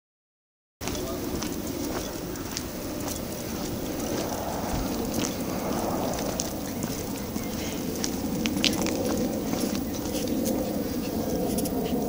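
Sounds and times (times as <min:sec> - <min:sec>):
background rumble and hiss: 0:00.9 - 0:12.0.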